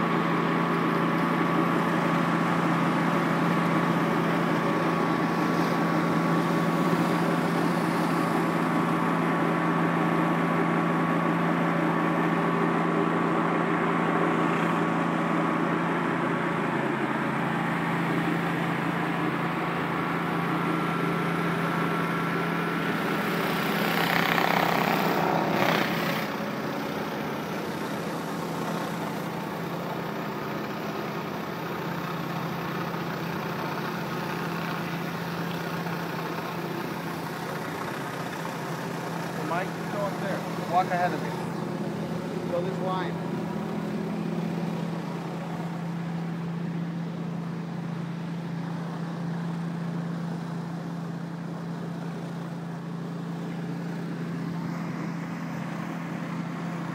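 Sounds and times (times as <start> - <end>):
pressure washer engine humming: 0.0 - 56.9.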